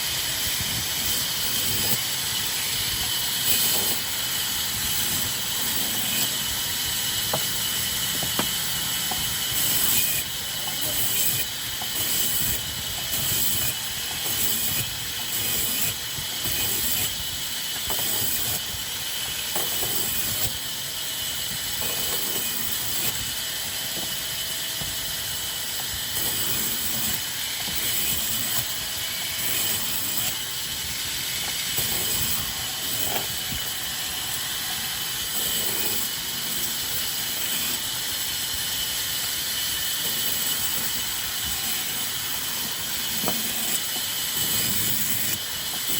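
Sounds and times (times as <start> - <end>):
sawmill machinery hiss: 0.0 - 45.9.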